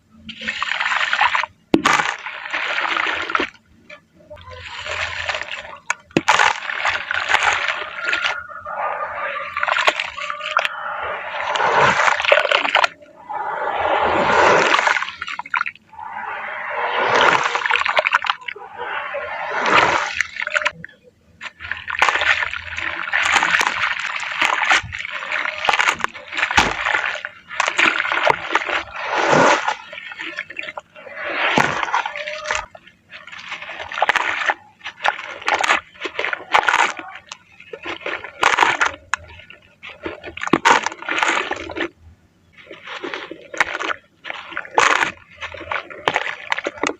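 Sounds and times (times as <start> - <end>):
water sloshing: 0.0 - 46.9
wet grainy crumbling in water: 0.0 - 46.9.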